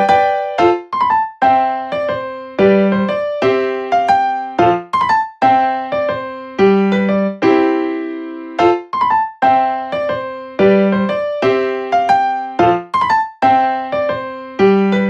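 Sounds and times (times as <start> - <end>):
electric piano tune: 0.0 - 15.0.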